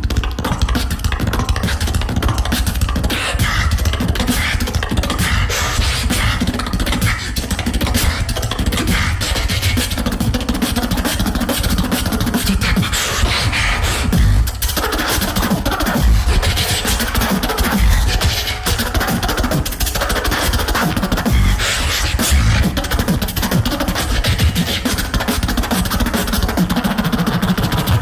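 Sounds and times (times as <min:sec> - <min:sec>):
beatbox percussive clicks and snares: 0:00.0 - 0:28.0
beatbox vocal bass line: 0:00.0 - 0:28.0.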